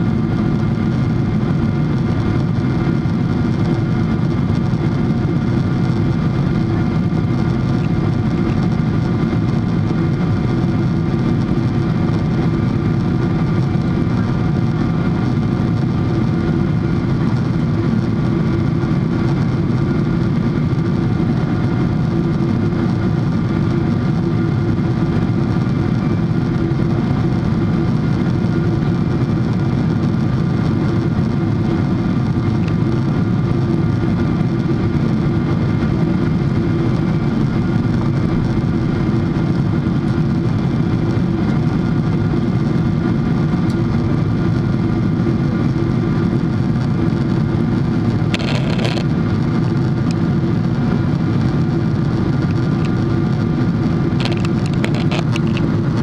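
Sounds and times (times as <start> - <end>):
jet engines and airflow roar: 0.0 - 56.0.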